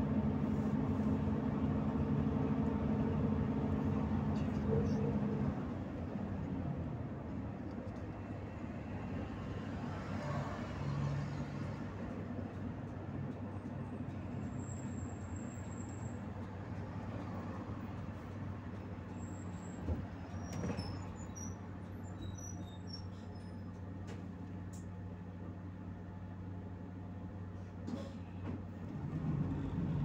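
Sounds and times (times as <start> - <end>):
bus engine humming: 0.0 - 30.0
road and cabin noise: 0.0 - 30.0.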